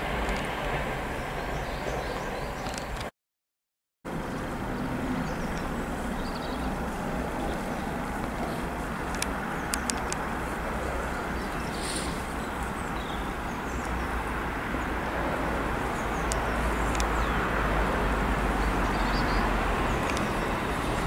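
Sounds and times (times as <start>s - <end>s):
diesel locomotive engine rumbling: 0.0s - 3.1s, 4.1s - 21.0s.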